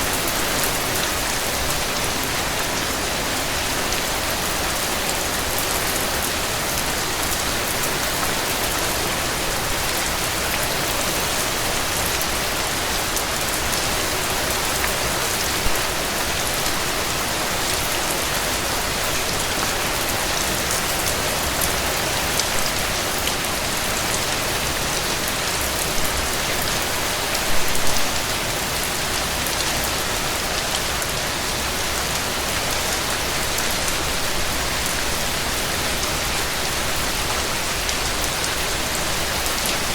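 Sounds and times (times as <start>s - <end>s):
heavy rain on a porch: 0.0s - 39.9s.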